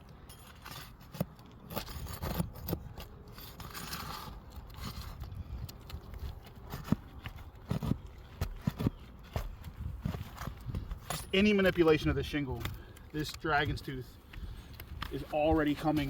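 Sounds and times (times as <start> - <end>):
roof shingles scraping and crackling: 0.5 - 16.0.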